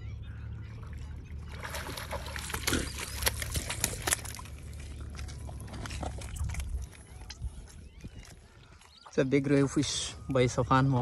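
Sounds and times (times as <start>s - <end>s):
water splashing: 0.6s - 11.0s.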